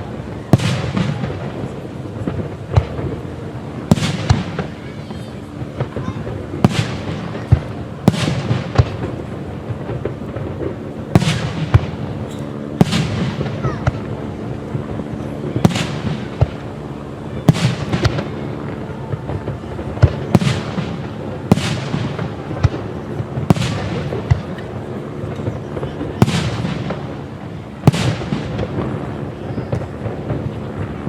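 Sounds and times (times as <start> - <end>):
fireworks bangs echoing: 0.0 - 31.0.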